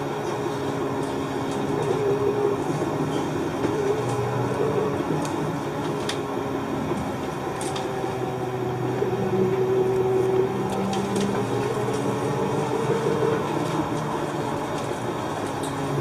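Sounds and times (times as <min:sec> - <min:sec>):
bus engine drone: 0:00.0 - 0:16.0
drivetrain humming tones: 0:00.0 - 0:16.0.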